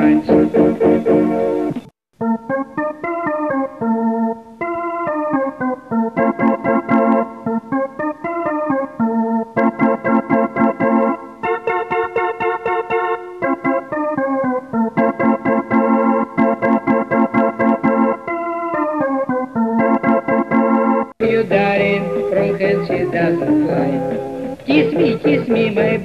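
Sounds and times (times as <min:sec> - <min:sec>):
instrumental music with steady beat: 0:00.0 - 0:26.0.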